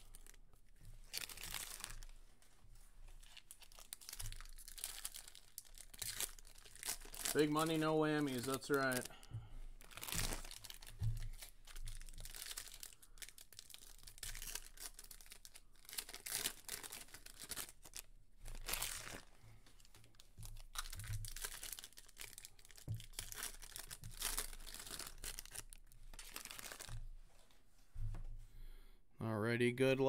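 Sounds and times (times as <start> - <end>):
foil wrappers tearing and crinkling: 0.0 - 0.4, 1.0 - 2.1, 3.2 - 9.1, 9.8 - 27.0.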